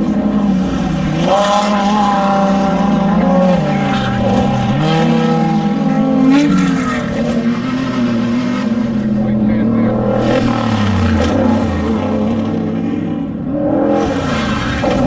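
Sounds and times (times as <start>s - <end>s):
race vehicle engines revving: 0.0s - 15.0s.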